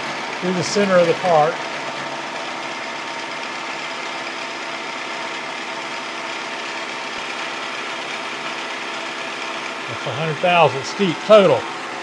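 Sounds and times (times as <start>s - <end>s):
milling machine hum and whine: 0.0s - 12.0s.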